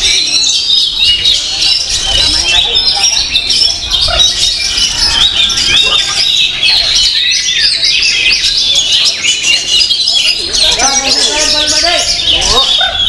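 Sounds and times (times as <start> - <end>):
magpie-robins singing: 0.0 - 13.0.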